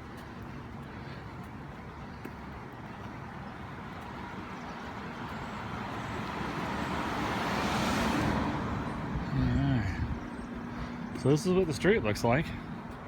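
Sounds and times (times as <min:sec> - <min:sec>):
vehicle passing on street: 0:00.0 - 0:13.0.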